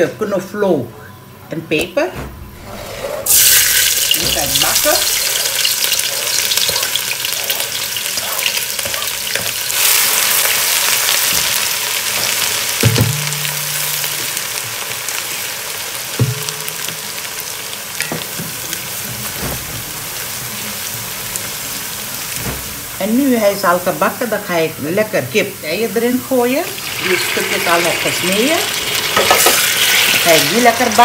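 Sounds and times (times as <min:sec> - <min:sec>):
vegetables sizzling in hot oil: 0:03.2 - 0:31.0.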